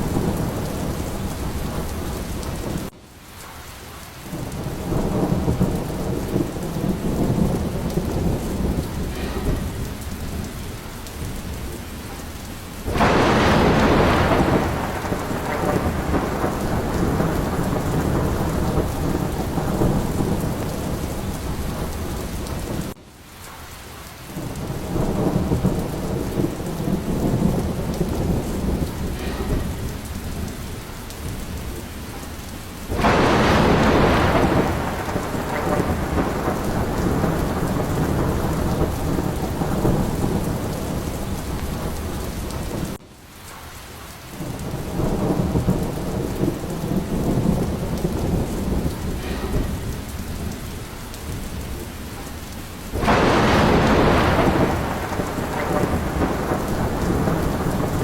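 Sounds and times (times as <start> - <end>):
rolling thunder: 0.0 - 3.0, 4.2 - 23.0, 24.3 - 43.0, 44.3 - 58.0
sharp thunderclap: 0.0 - 3.0, 4.2 - 23.0, 24.3 - 43.0, 44.4 - 58.0
heavy rain: 0.0 - 58.0.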